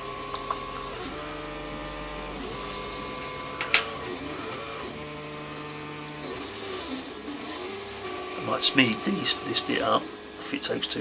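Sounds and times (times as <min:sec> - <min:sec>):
printer stepper motors whining: 0:00.0 - 0:11.0.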